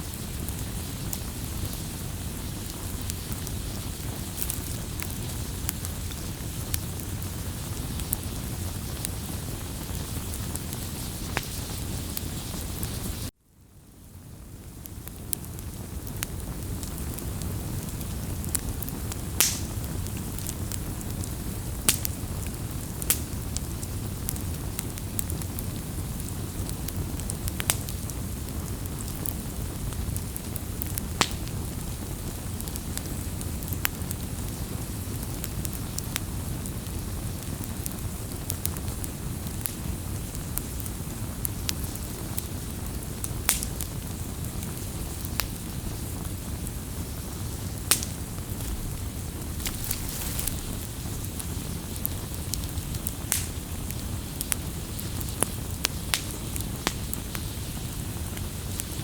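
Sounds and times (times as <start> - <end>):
burning wood crackling and popping: 0.0 - 13.4, 14.0 - 59.0
campfire flames rumbling: 0.0 - 13.4, 14.0 - 59.0.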